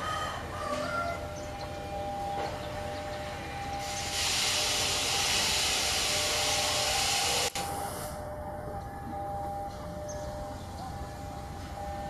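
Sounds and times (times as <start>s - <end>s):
passing train rushing hiss: 0.0s - 12.0s.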